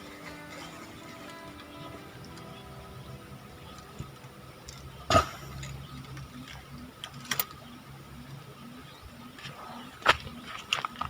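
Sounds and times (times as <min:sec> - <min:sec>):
faint steady background tone: 0:00.0 - 0:11.0.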